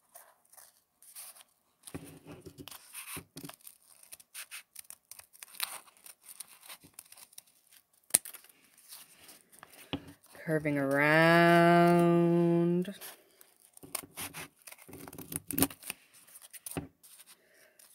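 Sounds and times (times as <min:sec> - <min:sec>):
paper rustling: 0:00.1 - 0:17.9.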